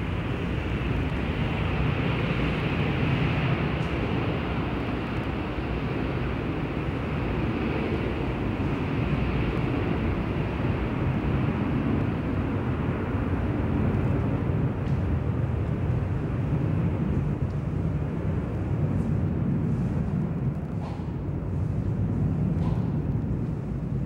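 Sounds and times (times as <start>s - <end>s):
low rumble and hiss: 0.0s - 24.0s.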